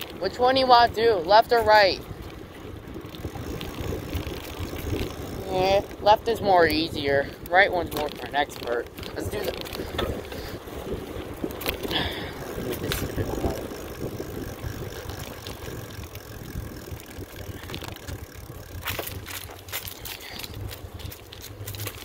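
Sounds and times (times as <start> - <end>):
wind on microphone: 0.0 - 21.8
bike clicks and rattles: 0.0 - 22.0
bike tyre noise on trail: 0.0 - 22.0.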